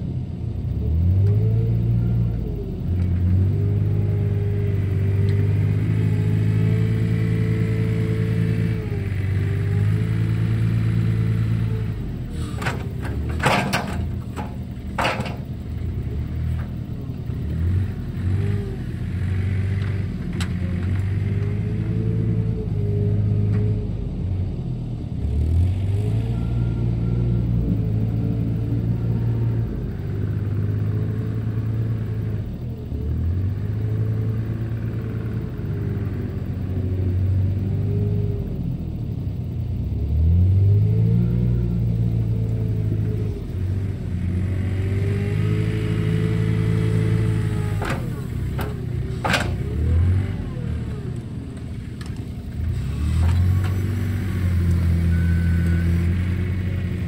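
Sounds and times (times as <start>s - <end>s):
wheel loader engine revving: 0.6s - 57.0s.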